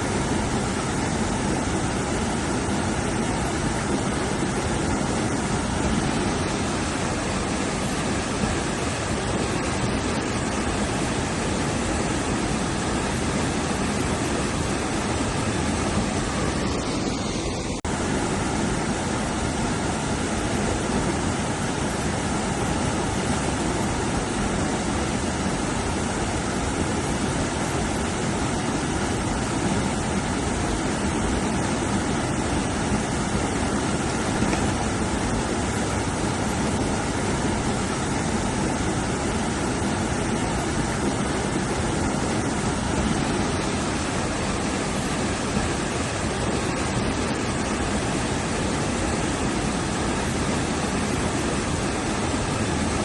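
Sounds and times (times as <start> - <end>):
rushing river water: 0.0 - 53.0.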